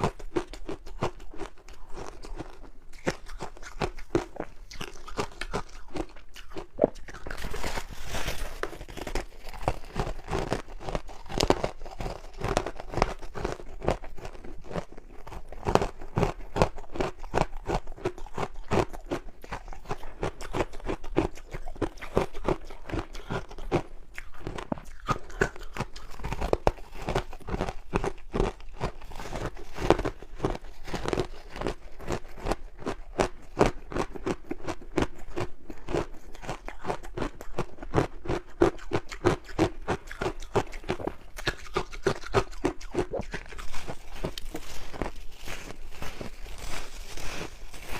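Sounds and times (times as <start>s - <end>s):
ice being crunched and chewed: 0.0s - 47.9s.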